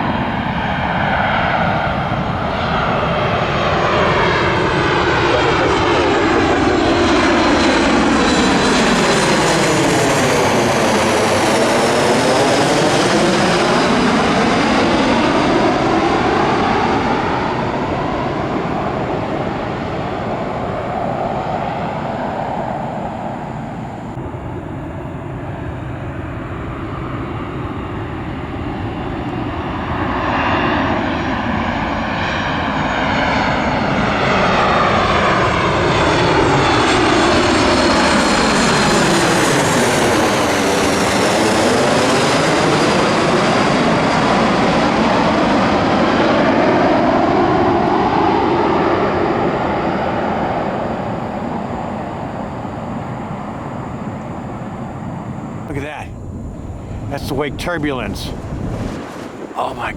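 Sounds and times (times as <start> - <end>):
jet airliner passing overhead: 0.0 - 59.9.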